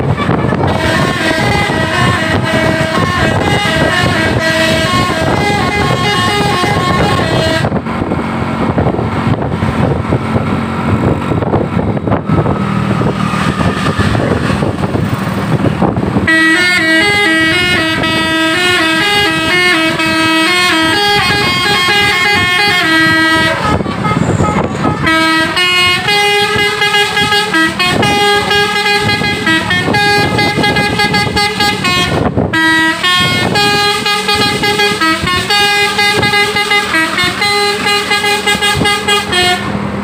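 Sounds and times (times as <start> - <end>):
bus musical horn melody: 0.0 - 9.4, 15.6 - 40.0
loud rushing noise: 0.0 - 40.0.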